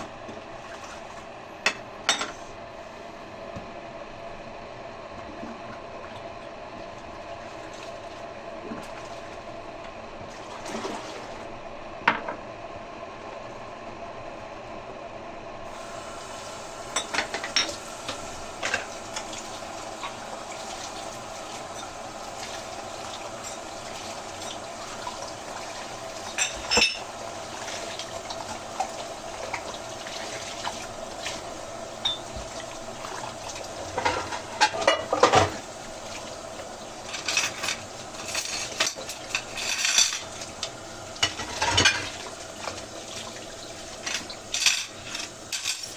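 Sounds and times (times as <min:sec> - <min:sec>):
coffee machine humming: 0:00.0 - 0:45.9.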